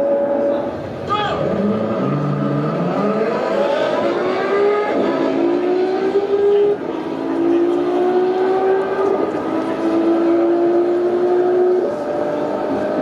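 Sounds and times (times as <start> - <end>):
racing car engine accelerating: 0.0 - 13.0.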